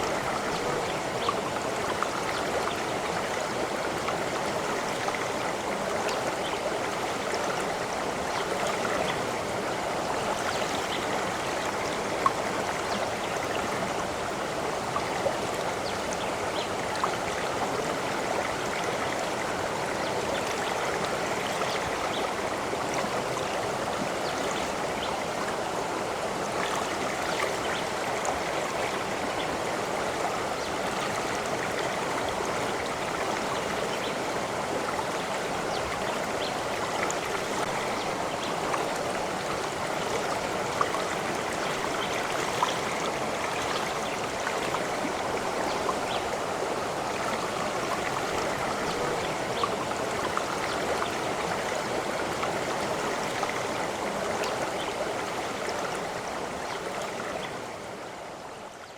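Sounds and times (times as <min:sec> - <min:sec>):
stream rushing and burbling: 0:00.0 - 0:58.9.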